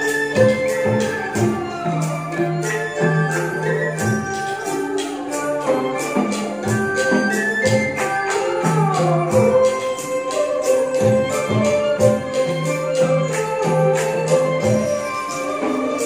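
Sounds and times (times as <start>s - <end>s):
bright percussion strikes: 0.0s - 16.0s
sustained sliding melody: 0.0s - 16.0s.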